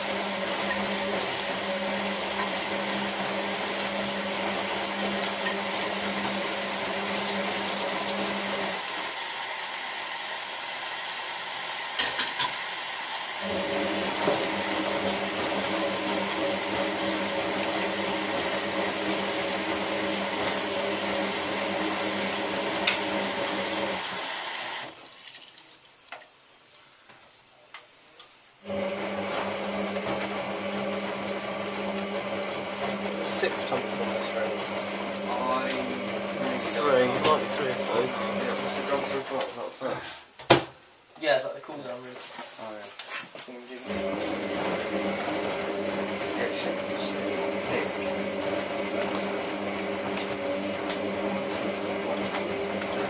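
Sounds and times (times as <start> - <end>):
washing machine motor humming: 0.0 - 25.0, 28.6 - 39.6, 43.8 - 53.0.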